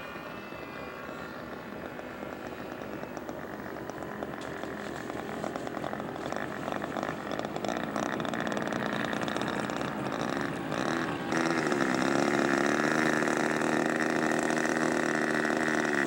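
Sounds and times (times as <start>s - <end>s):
model airplane engine buzzing: 0.0s - 16.0s.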